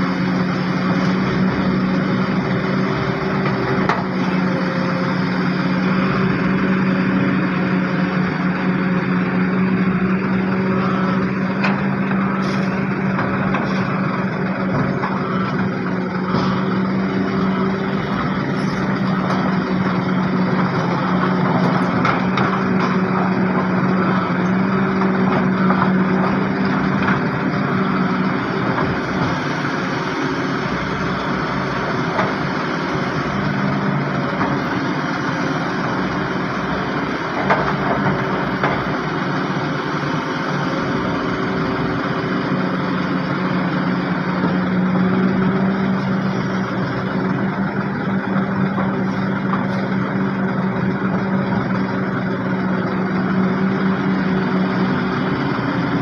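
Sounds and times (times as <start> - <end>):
diesel machinery humming: 0.0 - 56.0.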